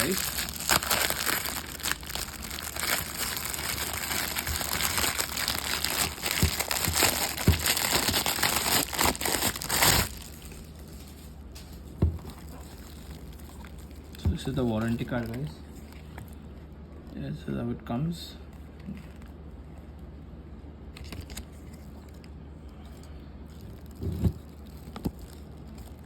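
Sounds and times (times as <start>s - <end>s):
packaging crinkling and rustling: 0.0s - 16.5s, 18.6s - 19.4s, 21.0s - 26.0s.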